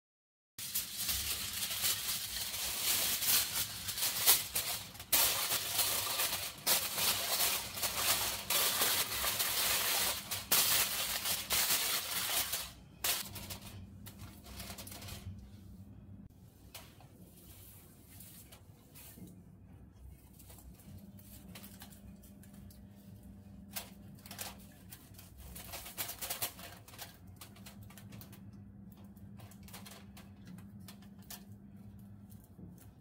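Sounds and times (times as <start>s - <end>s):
aluminium foil crinkling: 0.6s - 15.5s, 20.3s - 33.0s.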